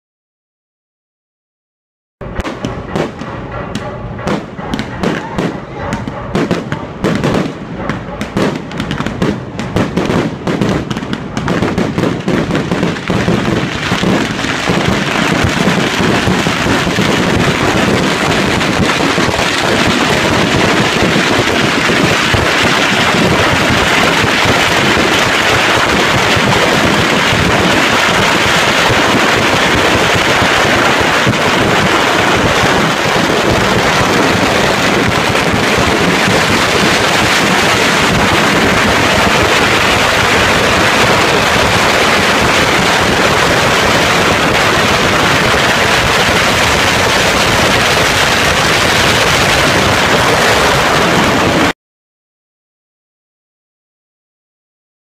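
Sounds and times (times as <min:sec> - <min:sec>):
firecrackers banging and crackling: 0:02.2 - 0:51.7.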